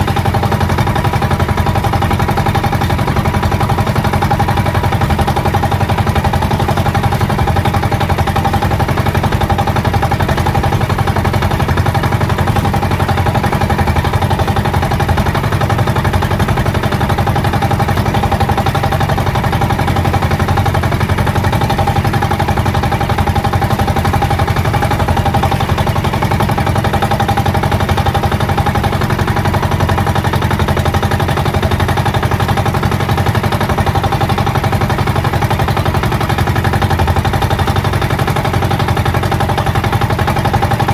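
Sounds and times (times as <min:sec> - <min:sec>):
boat engine puttering: 0:00.0 - 0:40.9.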